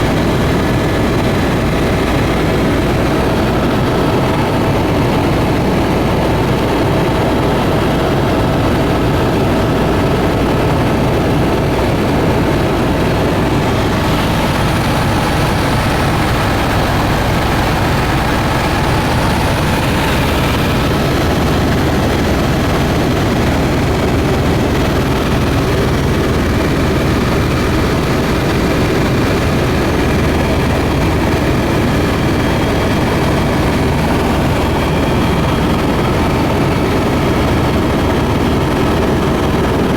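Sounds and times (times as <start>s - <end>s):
airplane engines droning in flight: 0.0s - 39.9s.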